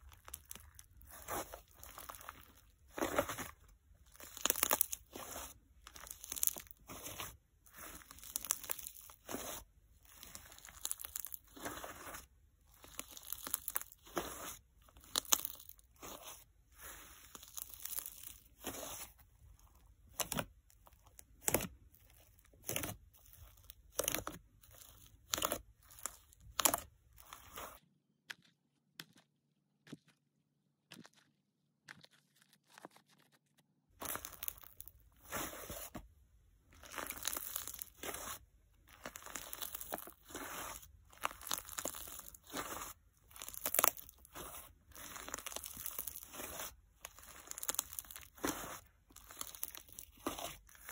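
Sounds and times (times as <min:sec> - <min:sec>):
clay slime squishing and crackling: 0:00.0 - 0:50.9.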